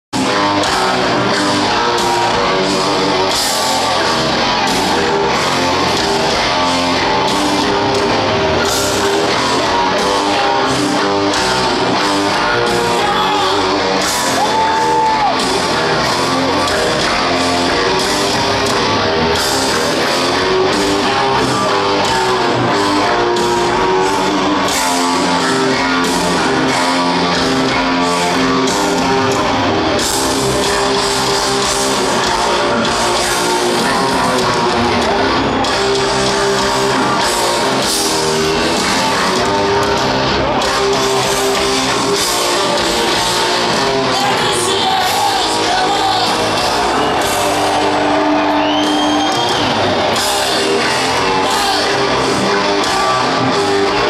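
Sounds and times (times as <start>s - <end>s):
distorted electric guitar riff: 0.1s - 54.0s
drum kit: 0.1s - 54.0s
heavy metal band playing live: 0.1s - 54.0s.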